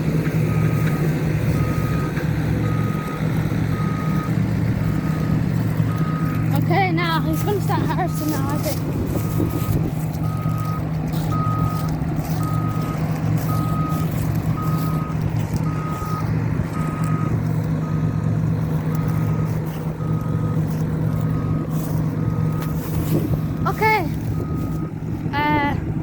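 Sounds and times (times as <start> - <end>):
reversing alarm beeping: 0.0 - 25.8
diesel engine humming: 0.0 - 26.0.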